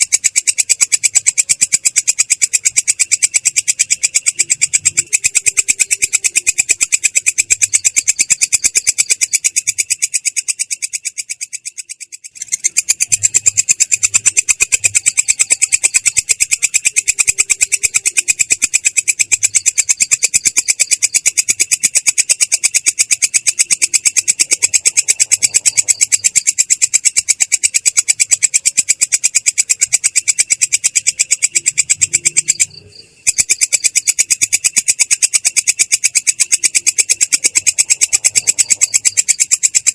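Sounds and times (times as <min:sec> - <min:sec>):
bird rattling trill: 0:00.0 - 0:39.9.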